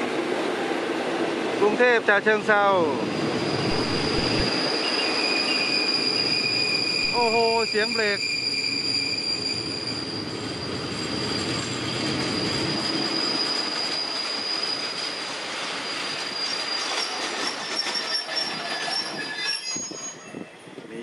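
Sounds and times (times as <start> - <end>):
train brakes squealing: 2.8 - 20.6
train wheels rumbling on rails: 2.8 - 20.9.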